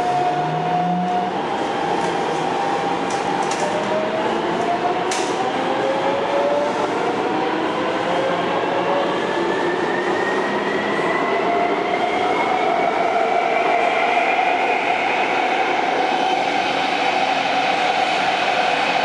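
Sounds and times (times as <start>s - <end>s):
train running noise: 0.0s - 11.1s, 12.6s - 19.0s.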